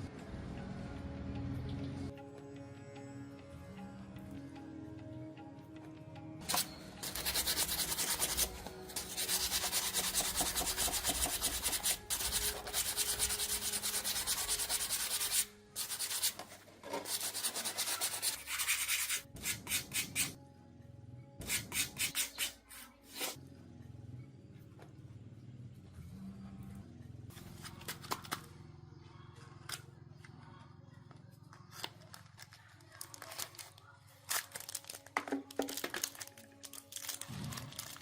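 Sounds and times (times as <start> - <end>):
faint background music: 0.0 - 38.0.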